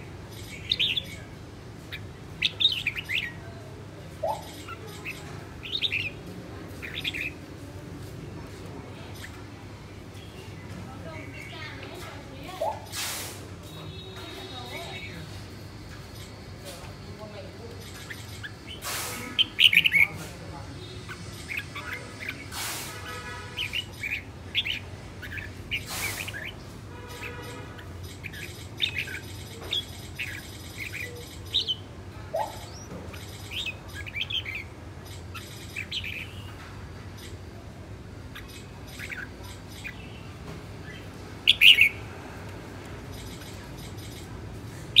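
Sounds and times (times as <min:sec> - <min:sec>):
bird chirping and calling: 0:00.0 - 0:45.0.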